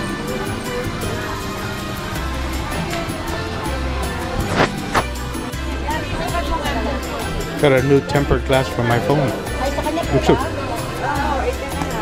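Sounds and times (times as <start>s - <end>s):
background music with bass beat: 0.0s - 12.0s.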